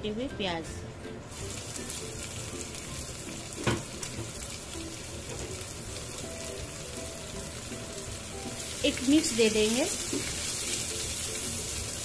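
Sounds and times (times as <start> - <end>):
onions sizzling in hot oil: 1.3 - 12.0.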